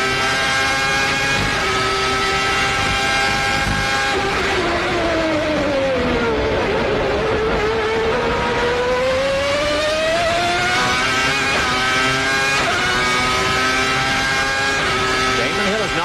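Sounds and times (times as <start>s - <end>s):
racing car engine at high revs: 0.0s - 16.0s.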